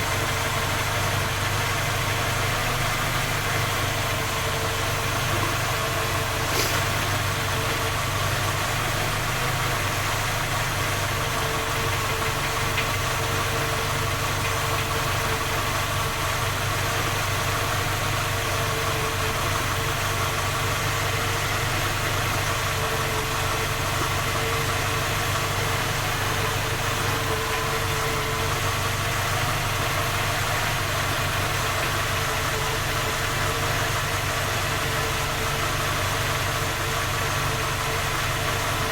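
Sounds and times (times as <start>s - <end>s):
car engine idling with a knock: 0.0s - 38.9s.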